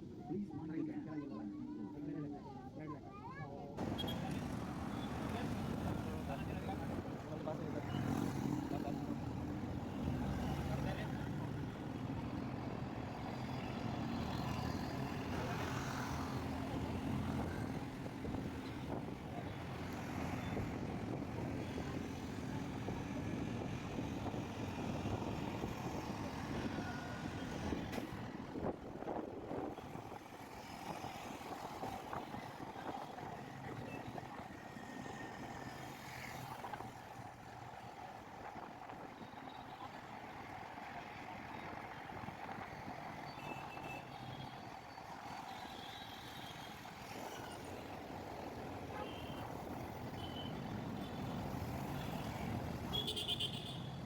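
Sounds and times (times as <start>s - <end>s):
road traffic rumble: 3.8s - 54.0s.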